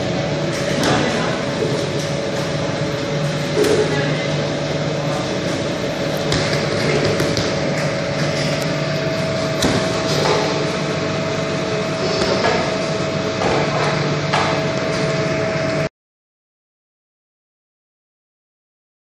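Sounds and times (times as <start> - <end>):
bakery machinery humming: 0.0 - 15.9
machine whine: 0.0 - 15.9.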